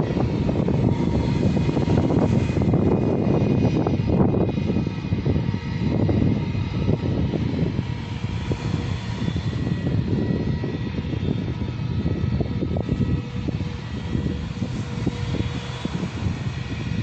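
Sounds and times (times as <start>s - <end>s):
distant jet engines rumbling: 0.0s - 17.0s
high whining tones: 0.0s - 17.0s.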